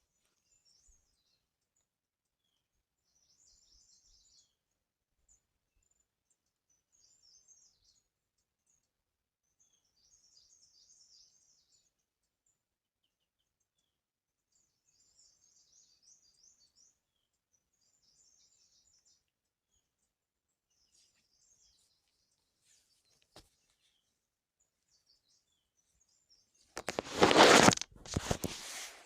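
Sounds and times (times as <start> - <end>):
small birds twittering: 0.0 - 28.9.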